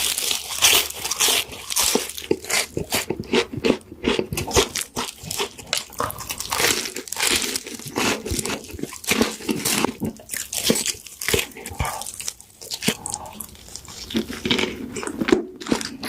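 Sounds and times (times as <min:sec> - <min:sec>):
crunching and chewing food: 0:00.0 - 0:16.0.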